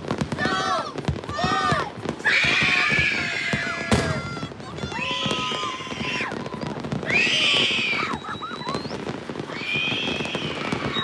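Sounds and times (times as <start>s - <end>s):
firecracker pops: 0.0s - 11.0s
whistling fireworks: 0.0s - 11.0s.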